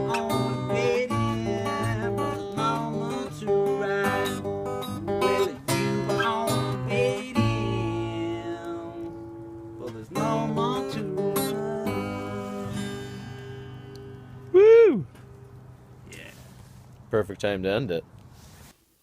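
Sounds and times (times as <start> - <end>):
acoustic guitar chords: 0.0 - 15.8.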